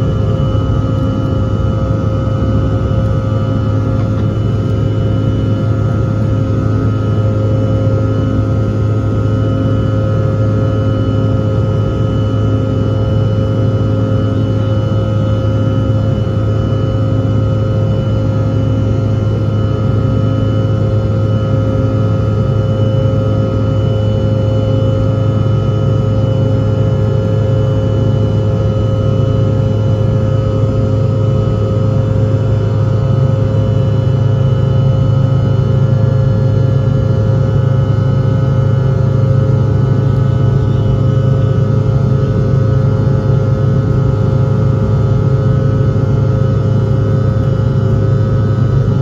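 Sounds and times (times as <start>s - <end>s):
jet engines droning in cabin: 0.0s - 49.0s.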